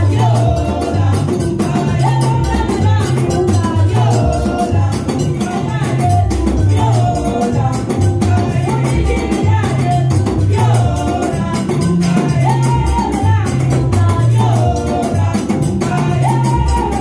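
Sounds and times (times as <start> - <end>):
amplified music with bass line: 0.0 - 17.0
steady percussion beat: 0.0 - 17.0
women singing praise song: 0.0 - 17.0.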